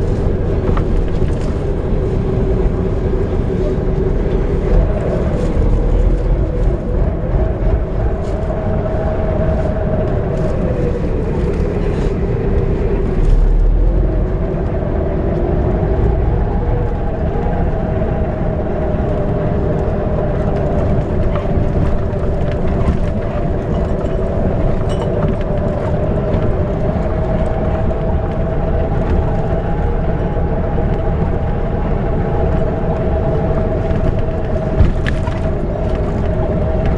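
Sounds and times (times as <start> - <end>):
coach diesel engine drone: 0.0 - 36.9
road noise: 0.0 - 36.9.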